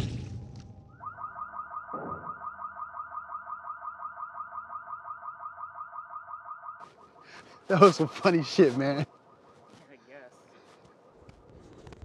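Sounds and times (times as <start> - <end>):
car alarm chirping: 0.8 - 11.6.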